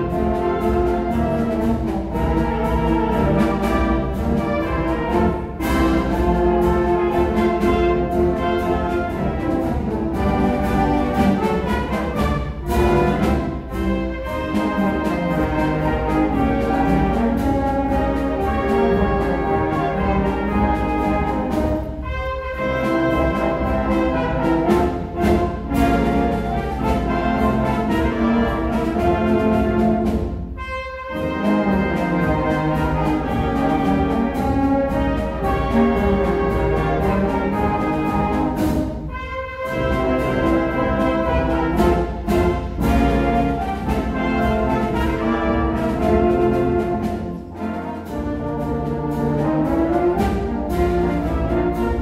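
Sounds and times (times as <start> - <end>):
concert band playing: 0.0 - 52.0
drum strokes: 0.0 - 52.0.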